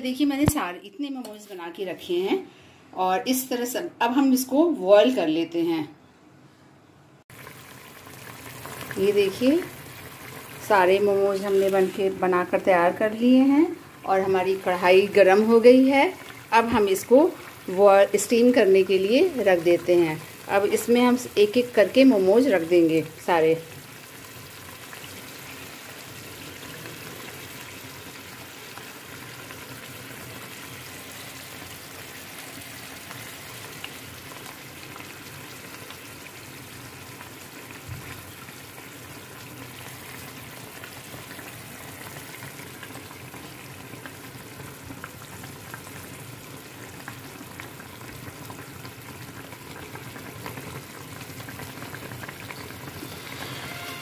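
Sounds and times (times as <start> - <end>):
water boiling: 7.3 - 54.0.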